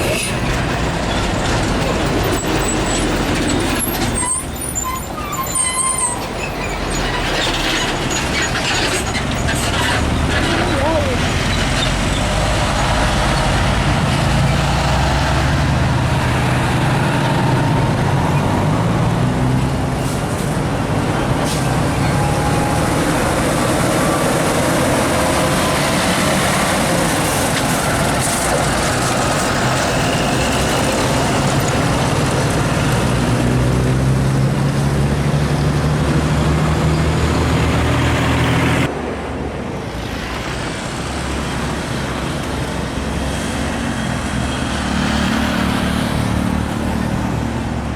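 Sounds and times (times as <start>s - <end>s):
diesel trucks driving past: 0.0s - 47.9s
road traffic noise: 0.0s - 47.9s.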